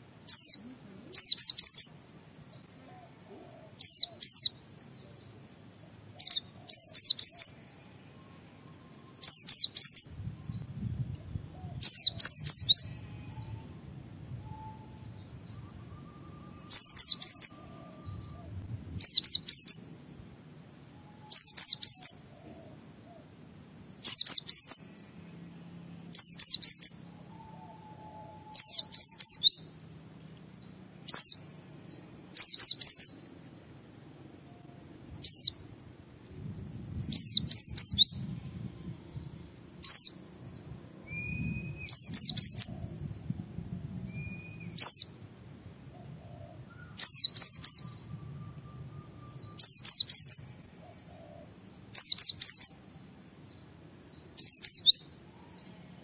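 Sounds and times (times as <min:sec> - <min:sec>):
bird singing high falling notes: 0:00.3 - 0:22.5, 0:23.9 - 0:35.8, 0:36.5 - 0:45.4, 0:46.0 - 0:51.3.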